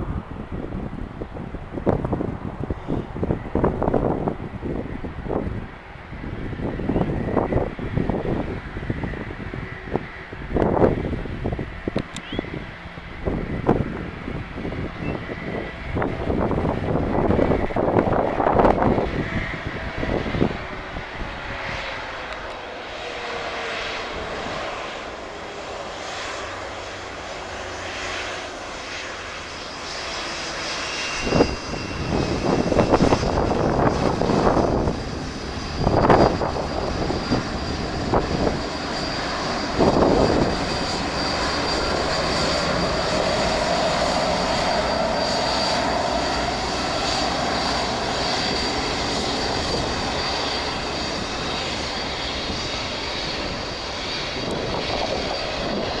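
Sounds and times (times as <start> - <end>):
crackling gusts: 0.0 - 56.0
jet engines at takeoff: 0.0 - 56.0.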